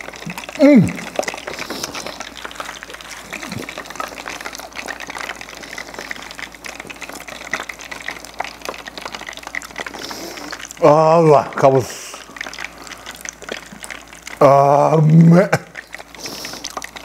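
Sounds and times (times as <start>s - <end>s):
hot oil sizzling in deep fryer: 0.0s - 17.0s.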